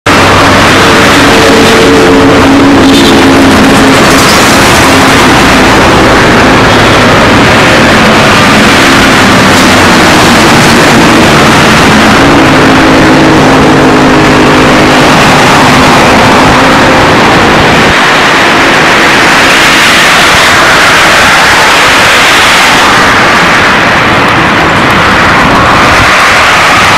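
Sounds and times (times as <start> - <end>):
road traffic noise: 0.0 - 26.9
vehicle engine droning: 0.0 - 26.9.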